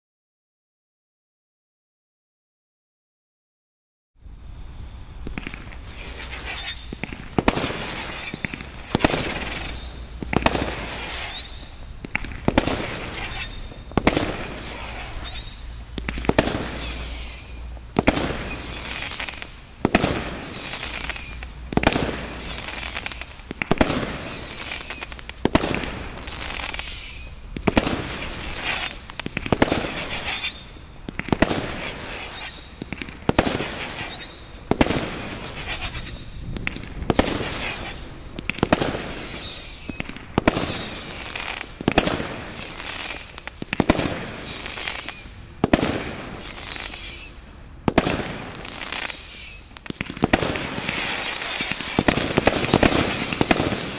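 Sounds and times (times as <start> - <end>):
falling firework whistle: 4.7 - 53.9
firework bangs: 5.2 - 53.9
firework crackling fizz: 5.2 - 53.9.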